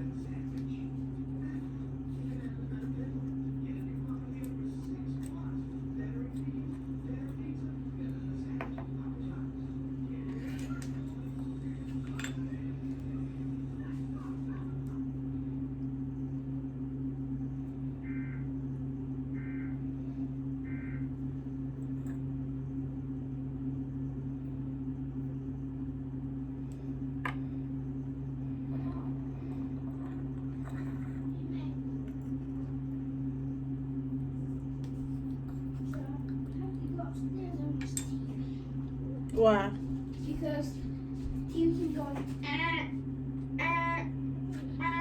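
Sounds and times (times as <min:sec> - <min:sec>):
low hum: 0:00.0 - 0:45.0.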